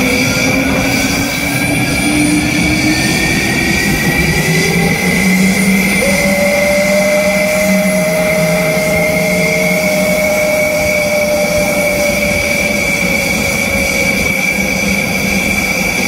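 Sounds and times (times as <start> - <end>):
jet turbine whine: 0.0 - 16.0.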